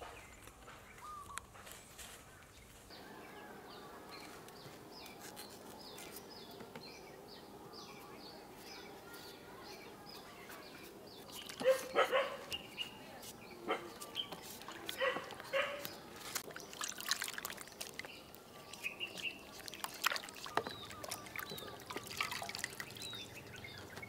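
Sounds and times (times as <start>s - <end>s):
bird chirping: 0.0s - 1.6s, 2.6s - 16.0s, 17.6s - 19.6s, 20.3s - 24.0s.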